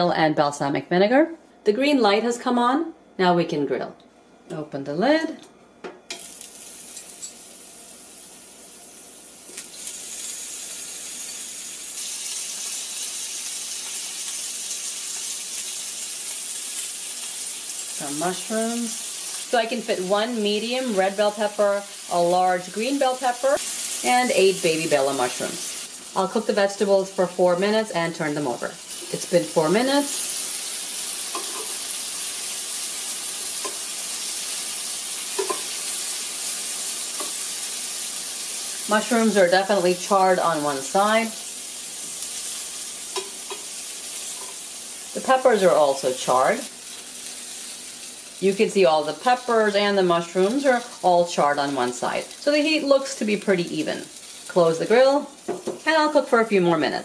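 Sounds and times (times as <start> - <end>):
bell pepper sizzling on a grill: 6.1 - 57.0.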